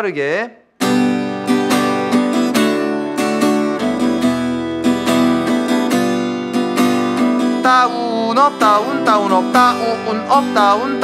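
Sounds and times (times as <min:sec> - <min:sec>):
acoustic guitar strumming: 0:00.8 - 0:11.0.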